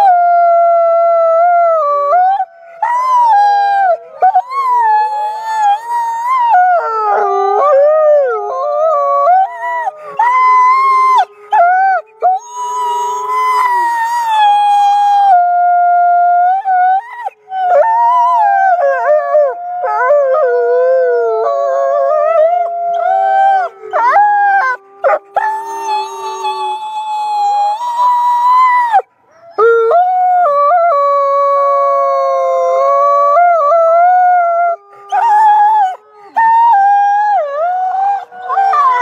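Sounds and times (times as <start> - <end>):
wolves howling in chorus: 0.0 - 39.0.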